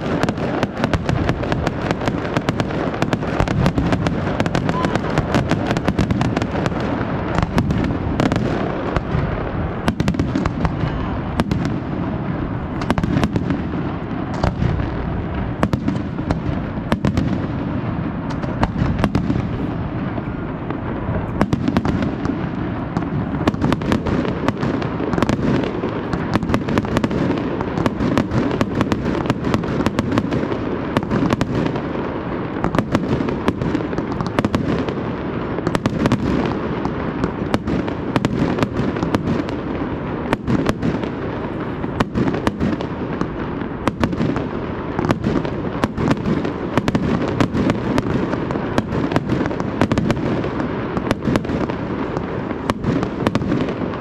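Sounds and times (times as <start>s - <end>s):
firework bangs and crackles: 0.0s - 54.0s.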